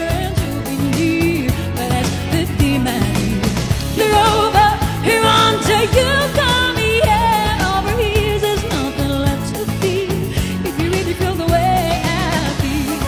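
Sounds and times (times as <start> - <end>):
pop backing track: 0.0 - 13.0
woman singing with vibrato: 0.0 - 13.0.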